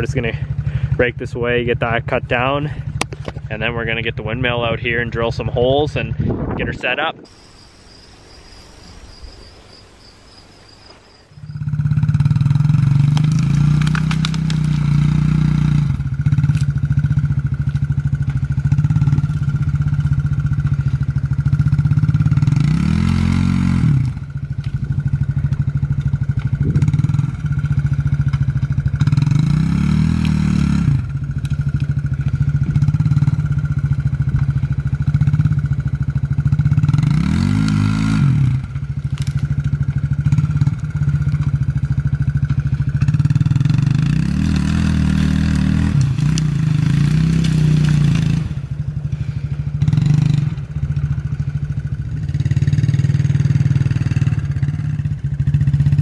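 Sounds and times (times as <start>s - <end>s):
atv engine revving under load: 0.0s - 7.5s, 11.2s - 56.0s.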